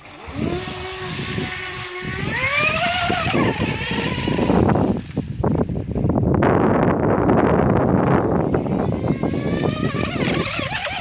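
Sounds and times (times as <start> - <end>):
electric motor whining: 0.0 - 5.4, 7.2 - 11.0.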